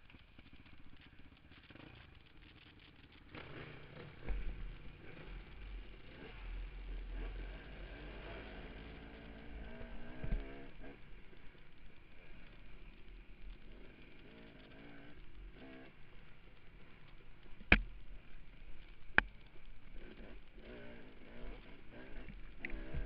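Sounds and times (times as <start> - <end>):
dirt bike engine revving: 0.4 - 23.0.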